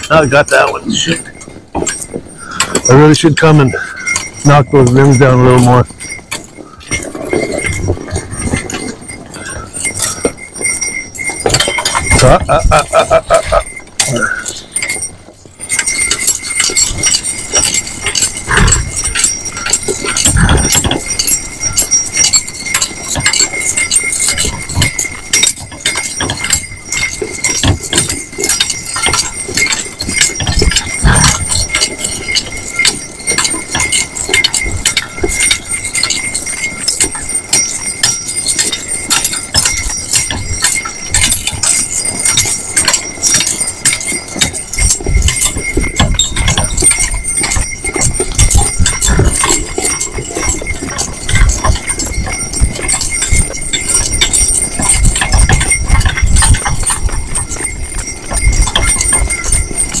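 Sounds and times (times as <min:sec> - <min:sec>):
harness jingling: 0:00.0 - 1:00.0
pony hoofbeats on snow: 0:00.0 - 1:00.0.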